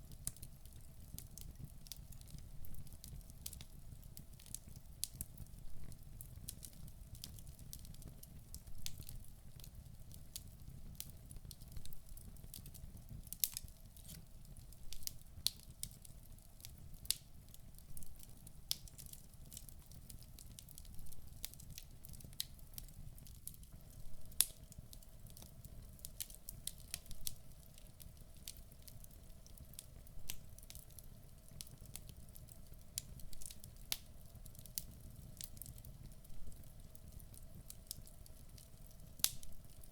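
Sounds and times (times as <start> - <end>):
soft rumble of flames: 0.0 - 39.9
wood fire crackling and popping: 0.0 - 39.9.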